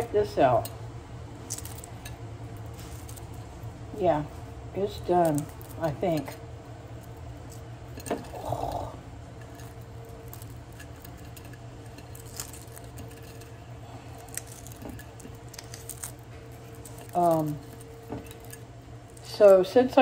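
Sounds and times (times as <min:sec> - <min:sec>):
eggshell crackling as peeled: 0:00.0 - 0:19.8
low hum: 0:00.0 - 0:20.0.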